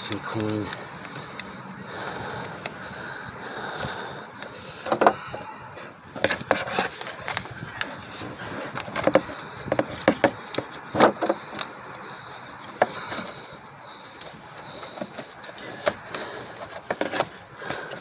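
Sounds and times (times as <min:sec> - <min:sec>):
hand tools clicking and scraping metal: 0:00.0 - 0:18.0.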